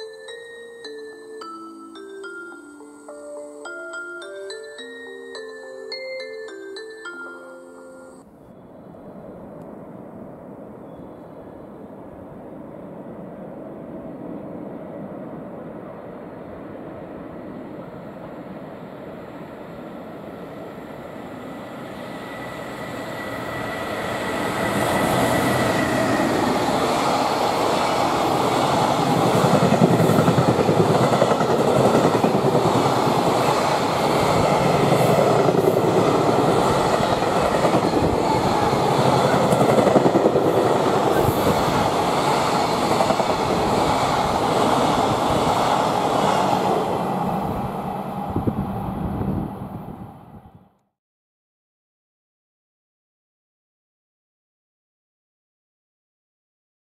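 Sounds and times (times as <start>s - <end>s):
electric locomotive passing: 0.0s - 50.8s.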